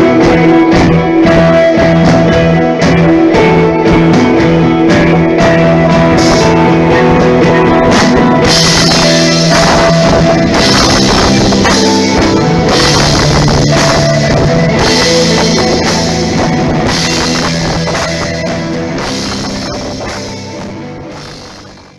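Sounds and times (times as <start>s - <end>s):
drum kit with cymbal crashes: 0.0s - 21.9s
electric guitar: 0.0s - 21.9s.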